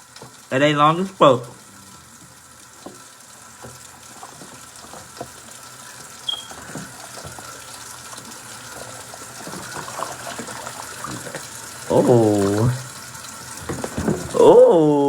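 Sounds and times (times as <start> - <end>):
water running from tap: 0.0 - 15.0.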